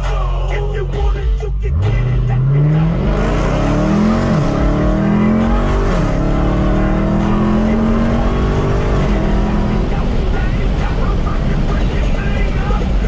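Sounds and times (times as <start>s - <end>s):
car engine accelerating hard: 1.6s - 13.0s.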